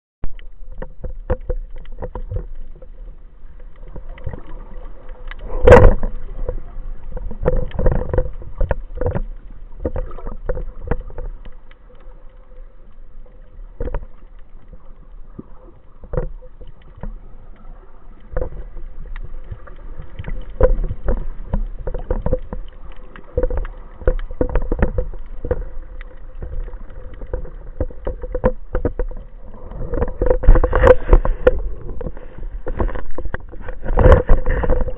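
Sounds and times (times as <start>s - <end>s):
underwater clicks and knocks: 0.2s - 34.9s.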